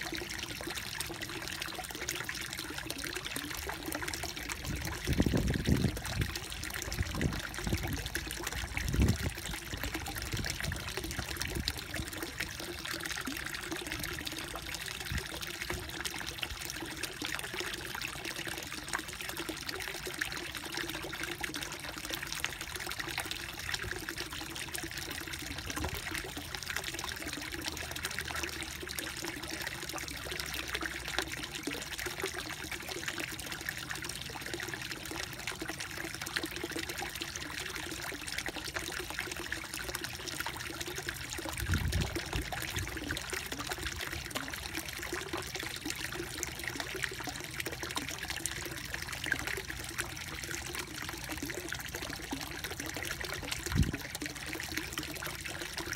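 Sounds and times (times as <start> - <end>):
water trickling and bubbling: 0.0 - 55.9.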